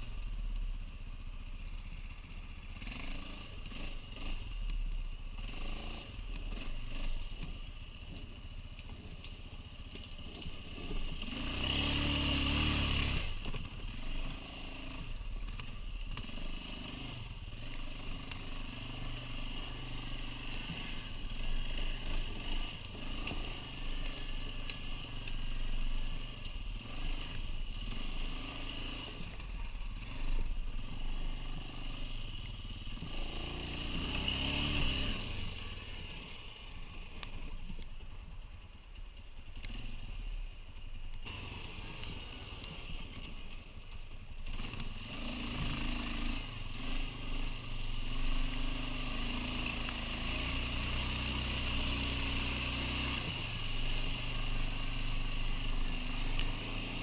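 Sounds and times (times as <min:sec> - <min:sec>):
quad bike engine revving: 0:02.6 - 0:04.7, 0:05.3 - 0:37.6, 0:39.6 - 0:40.3, 0:41.2 - 0:43.8, 0:44.4 - 0:57.0.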